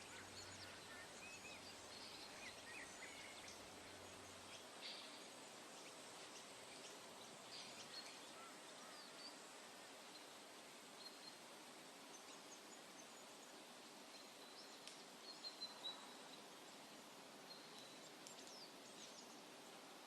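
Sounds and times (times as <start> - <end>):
birds chirping: 0.0 - 19.5
steady background hiss: 0.0 - 20.0.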